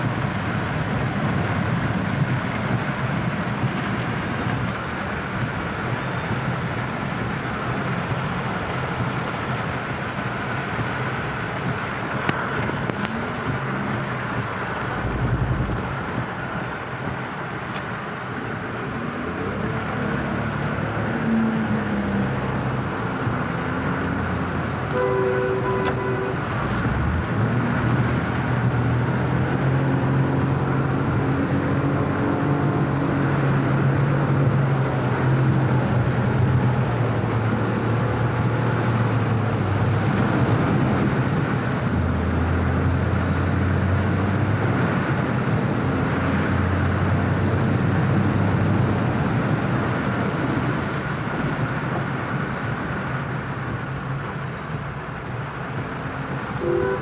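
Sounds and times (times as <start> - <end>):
heavy rain on car roof: 0.0 - 30.0, 33.2 - 43.5, 48.8 - 57.0
car engine hum: 0.0 - 57.0.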